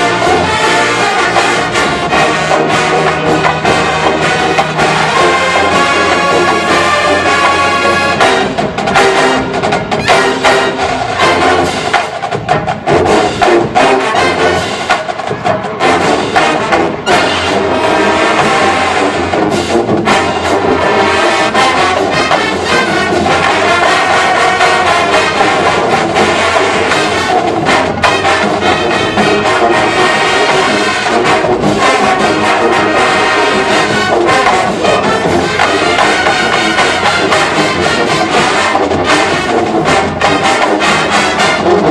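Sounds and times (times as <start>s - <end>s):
brass band music with percussion: 0.0s - 41.9s.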